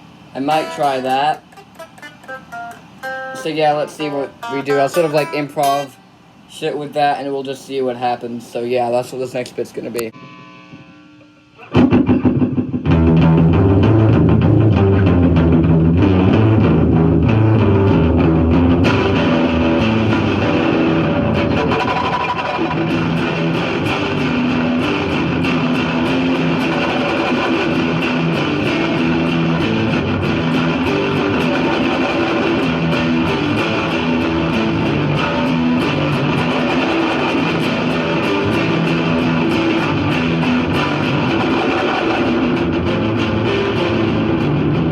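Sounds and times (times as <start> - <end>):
electric guitar with fuzz and delay: 0.0 - 6.4, 10.2 - 44.9.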